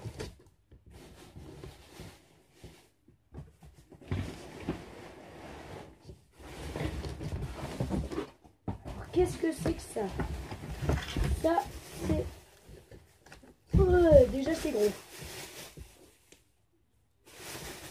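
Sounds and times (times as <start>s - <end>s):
packaging rustling and scraping: 0.0s - 16.3s, 17.2s - 17.9s.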